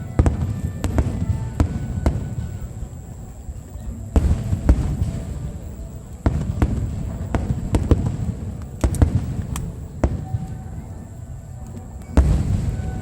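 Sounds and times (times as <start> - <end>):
fireworks booms and bangs: 0.0 - 11.2, 11.8 - 13.0.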